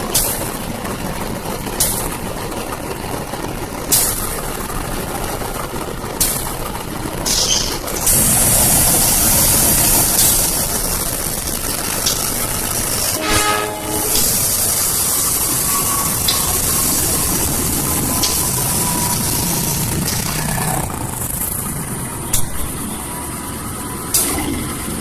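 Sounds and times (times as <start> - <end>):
diesel locomotive engine under load: 0.0 - 25.0.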